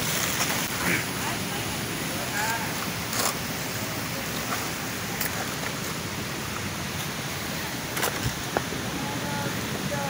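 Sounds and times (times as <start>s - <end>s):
creek running over rocks: 0.0s - 10.0s.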